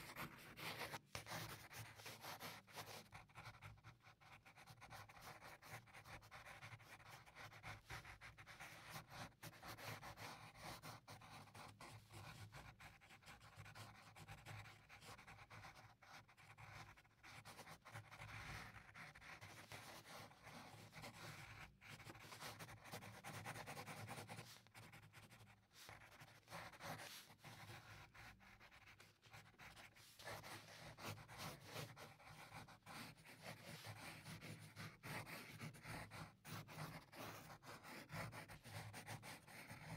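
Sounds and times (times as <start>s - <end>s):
pencil scratching on paper: 0.0s - 39.9s.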